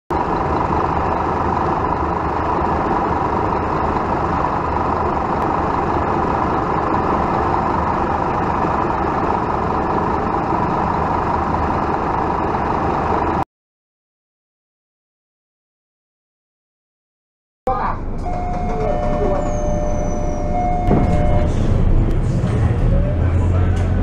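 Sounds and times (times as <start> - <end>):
bus diesel engine idling: 0.1 - 13.4, 17.7 - 24.0.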